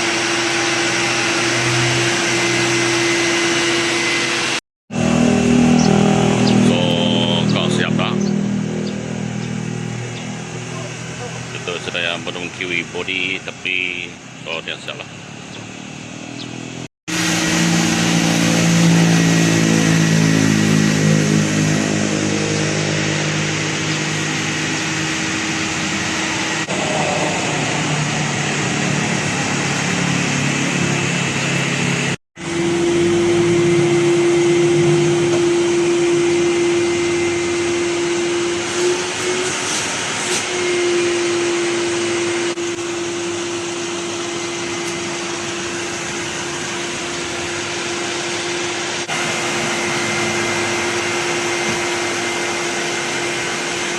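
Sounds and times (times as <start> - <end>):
vacuum cleaner whining: 0.0 - 53.9.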